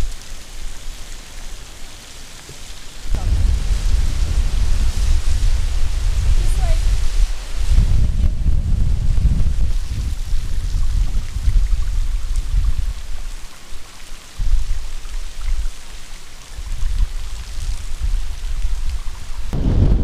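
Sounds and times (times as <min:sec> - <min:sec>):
wind gusting on microphone: 0:02.9 - 0:13.5, 0:14.4 - 0:20.0.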